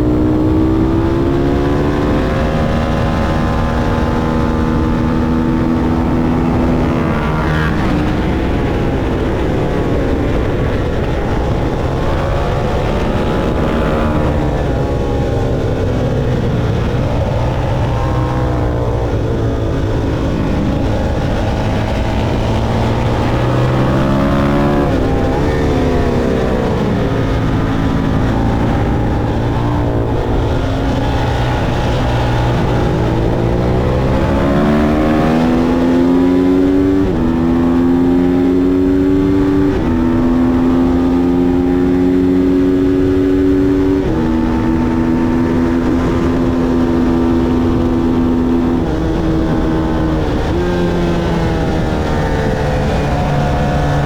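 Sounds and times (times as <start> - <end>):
motorcycle engine revving: 0.0 - 54.0
wind noise: 0.0 - 54.0.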